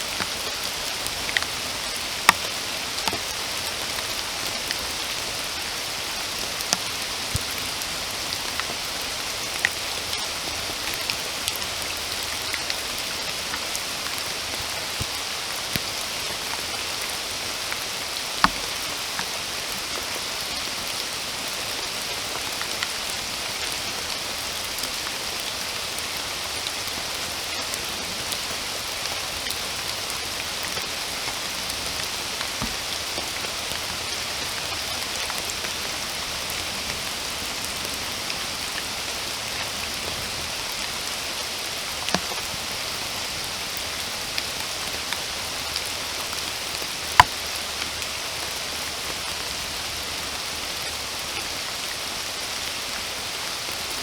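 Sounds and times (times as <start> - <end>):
raindrops ticking close by: 0.0 - 51.9
steady rain hiss: 0.0 - 54.0.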